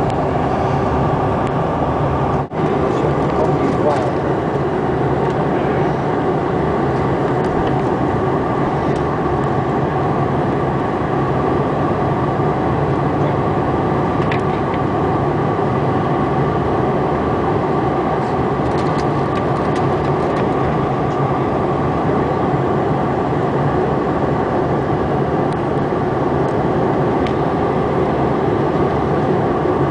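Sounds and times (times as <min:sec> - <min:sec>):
jet cabin rumble with whine: 0:00.0 - 0:29.9.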